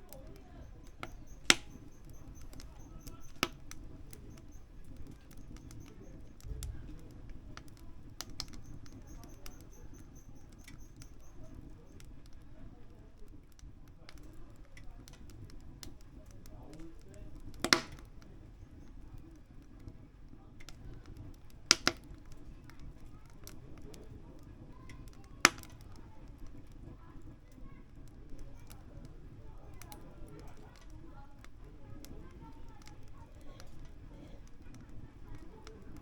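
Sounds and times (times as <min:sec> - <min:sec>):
firewood crackling and popping: 0:00.0 - 0:36.0.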